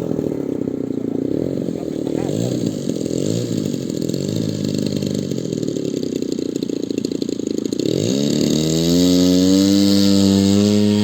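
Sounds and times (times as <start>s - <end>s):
model airplane engine: 0.0s - 11.0s.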